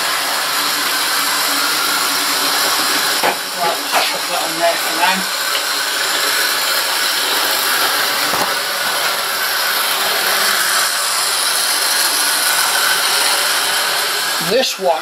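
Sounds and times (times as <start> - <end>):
model train motor whirring: 0.0 - 15.0.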